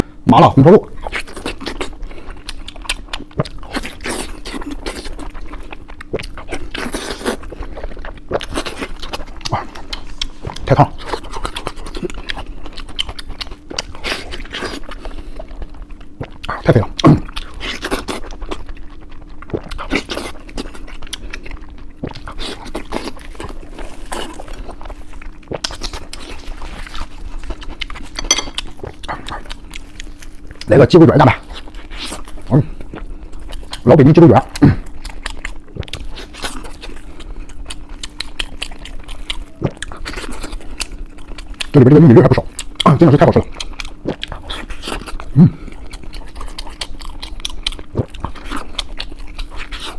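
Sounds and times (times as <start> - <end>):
faint hum: 0.0 - 49.9
chewing with mouth smacks: 0.9 - 49.9.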